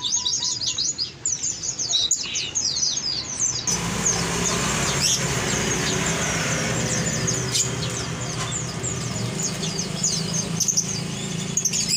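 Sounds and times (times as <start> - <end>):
caged songbirds chirping: 0.0 - 11.9.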